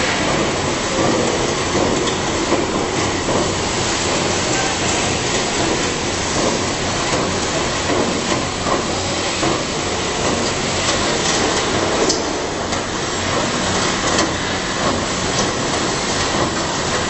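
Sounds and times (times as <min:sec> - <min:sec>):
conveyor motor hum: 0:00.0 - 0:17.0.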